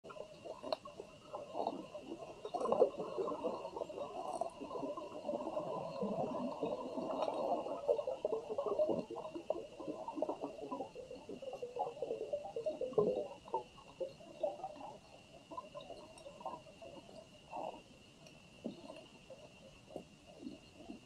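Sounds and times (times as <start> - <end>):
underwater crackling and clicks: 0.0 - 21.0.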